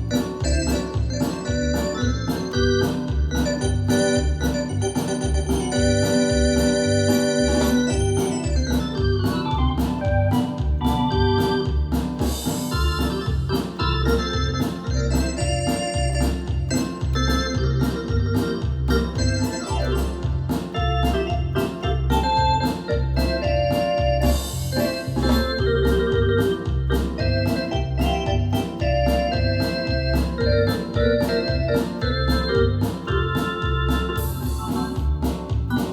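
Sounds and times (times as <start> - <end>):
pulsing bass line: 0.0 - 35.9
steady drum beat: 0.0 - 35.9
synthesizer organ chords: 0.0 - 35.9.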